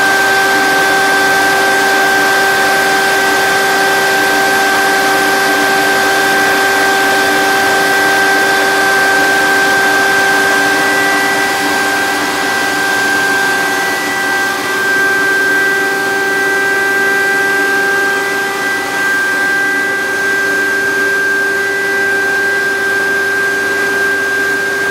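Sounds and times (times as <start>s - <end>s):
fan whine: 0.0s - 24.9s
ventilation fan air rush: 0.0s - 24.9s.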